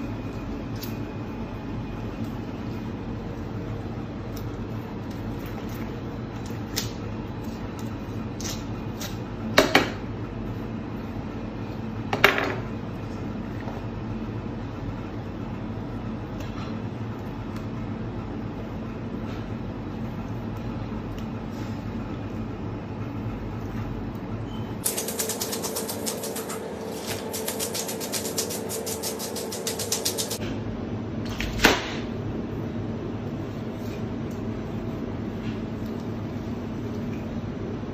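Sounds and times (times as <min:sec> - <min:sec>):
kitchen machinery hum: 0:00.0 - 0:37.9.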